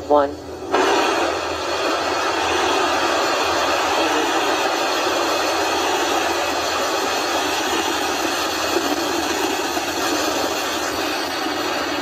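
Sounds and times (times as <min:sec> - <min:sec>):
rocket engines rushing roar: 0:00.0 - 0:12.0.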